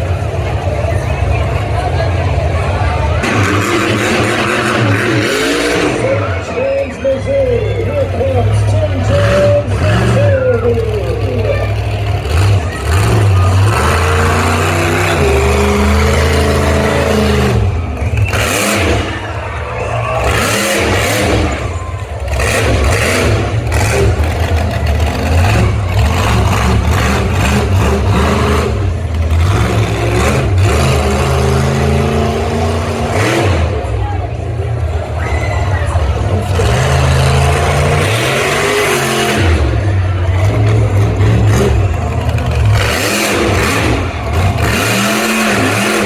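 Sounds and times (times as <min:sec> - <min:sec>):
monster truck engine revving: 0:00.0 - 0:46.0.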